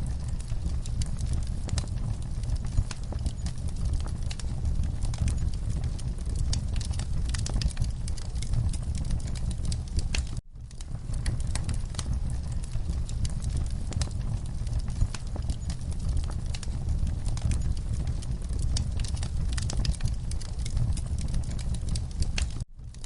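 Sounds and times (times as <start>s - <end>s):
low rumble: 0.0s - 23.0s
wood fire crackling and popping: 0.0s - 23.0s.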